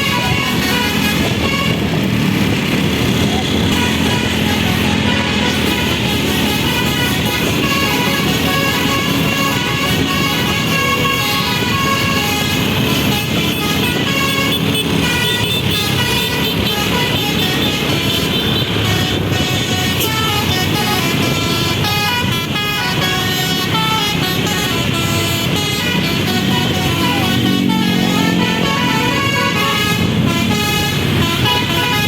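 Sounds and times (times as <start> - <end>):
musical air horn: 0.0 - 32.0.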